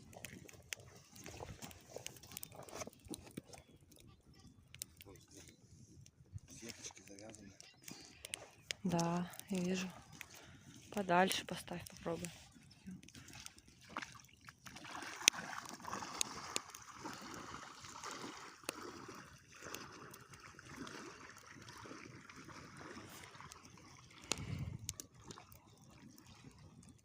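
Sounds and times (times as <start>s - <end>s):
water sloshing and trickling: 0.0s - 27.0s.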